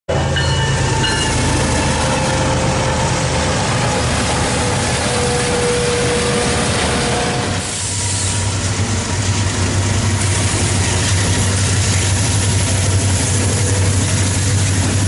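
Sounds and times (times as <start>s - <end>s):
diesel locomotive engine rumble: 0.1s - 15.0s
train rushing noise: 0.1s - 15.0s.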